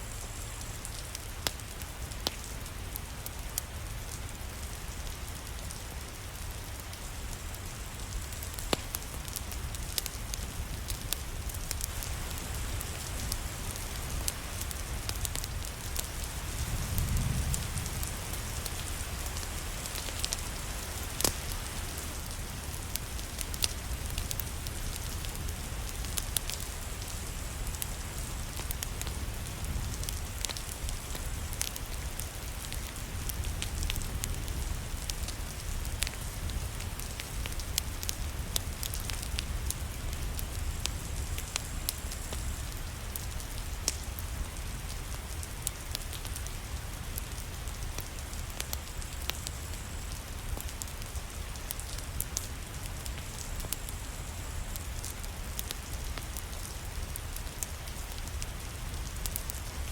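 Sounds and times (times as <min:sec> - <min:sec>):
rain falling: 0:00.0 - 0:59.9
fireplace crackling: 0:00.1 - 0:59.9.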